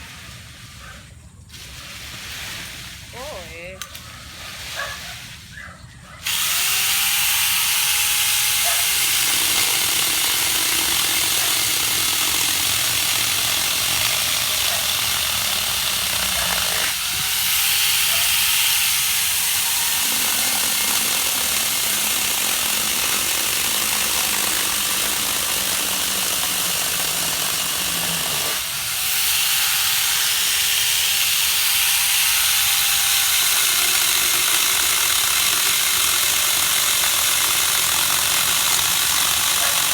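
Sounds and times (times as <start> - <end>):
chainsaw cutting wood: 6.2 - 39.9.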